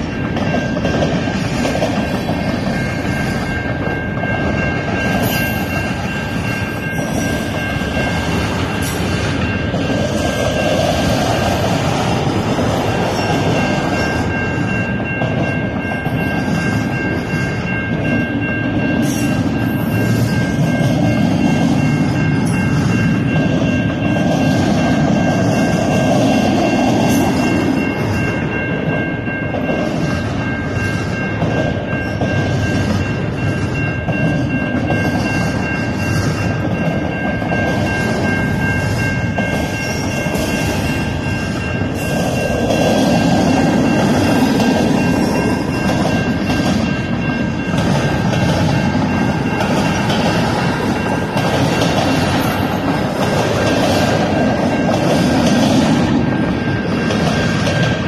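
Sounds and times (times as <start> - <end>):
crossing signal bell ringing: 0.0 - 58.0
freight train rumbling past: 0.0 - 58.0.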